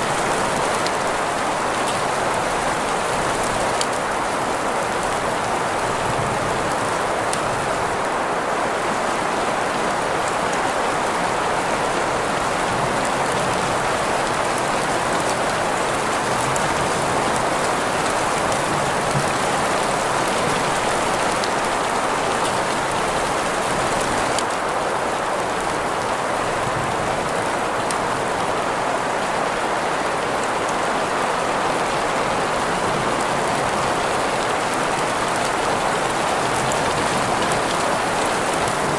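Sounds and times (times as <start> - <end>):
falling rain: 0.0 - 38.9.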